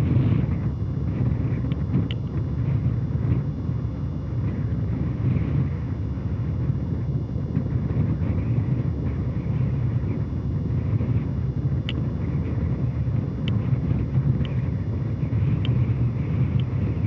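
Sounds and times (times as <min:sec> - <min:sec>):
rocket engines low rumble: 0:00.0 - 0:17.0.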